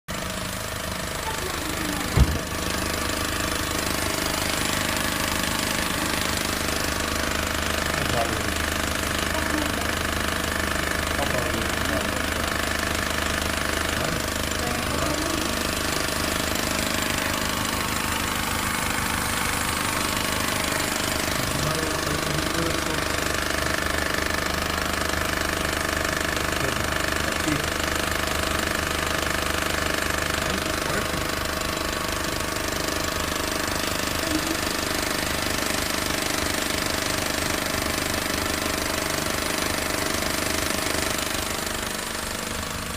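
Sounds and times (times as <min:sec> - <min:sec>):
car engine running: 0:00.1 - 0:42.9.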